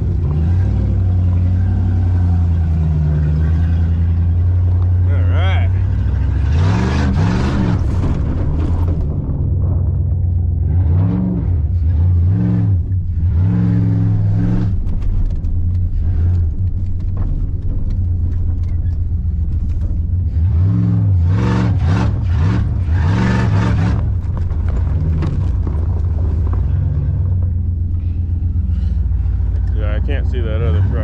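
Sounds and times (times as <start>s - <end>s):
pickup truck engine revving: 0.0s - 31.0s.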